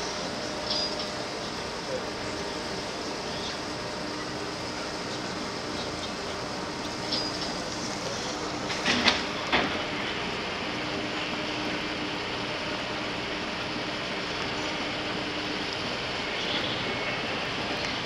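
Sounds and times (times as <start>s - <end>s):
faint low engine hum: 0.0s - 18.0s
propeller wash churning water: 0.0s - 18.0s.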